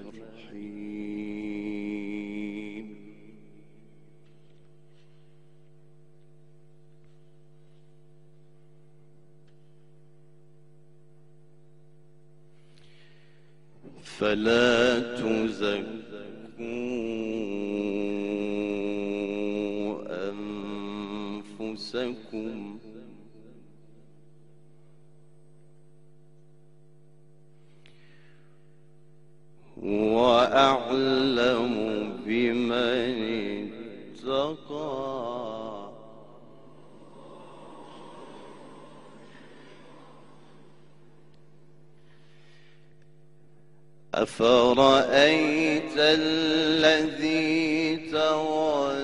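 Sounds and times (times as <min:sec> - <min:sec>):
electrical hum: 0:00.0 - 0:49.0.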